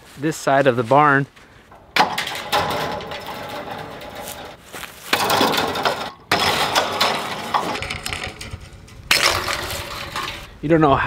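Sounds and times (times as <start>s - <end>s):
fence wire scraping and rattling: 1.5s - 10.6s.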